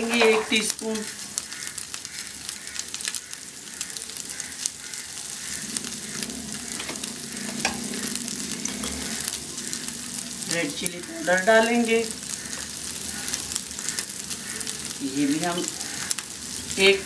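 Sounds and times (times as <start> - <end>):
oil popping: 0.0 - 16.8
chicken sizzling in frying pan: 0.0 - 17.0.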